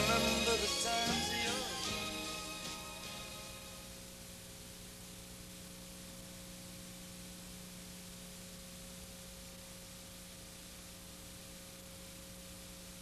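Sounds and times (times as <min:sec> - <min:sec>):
low electrical hum: 0:00.0 - 0:13.0
tape hiss: 0:00.0 - 0:13.0.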